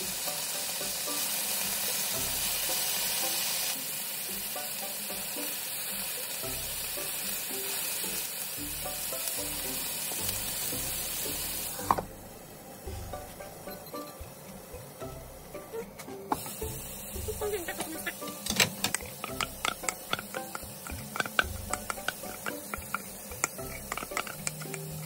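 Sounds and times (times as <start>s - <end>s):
food sizzling in frying pan: 0.0s - 15.7s, 16.3s - 25.0s.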